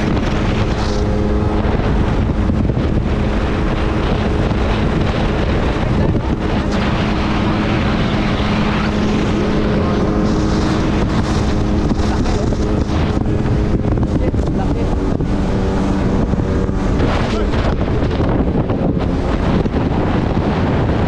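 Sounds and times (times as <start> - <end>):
jet ski engine running: 0.0 - 21.0
water rushing past hull: 0.0 - 21.0
wind buffeting microphone: 0.0 - 21.0.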